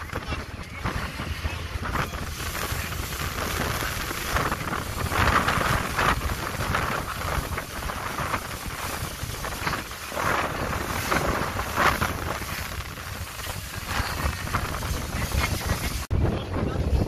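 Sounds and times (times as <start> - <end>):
motorboat engine: 0.0 - 16.5
water splashing against hull: 0.0 - 17.0
wind on microphone: 0.0 - 17.0.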